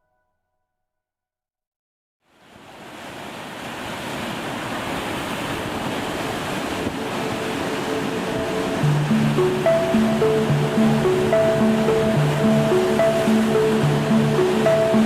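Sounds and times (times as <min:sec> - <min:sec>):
waves breaking: 0:02.3 - 0:15.0.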